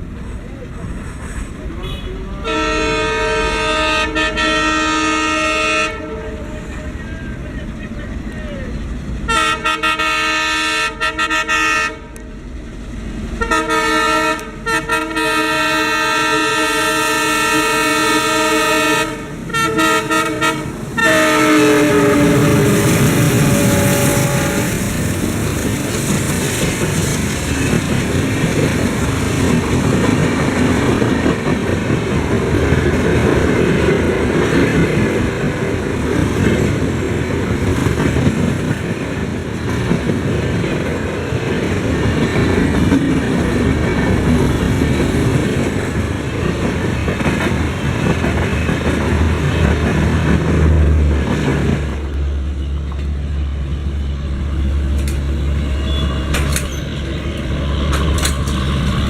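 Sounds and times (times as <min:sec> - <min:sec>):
train rumbling and clattering past: 0:00.0 - 0:59.0.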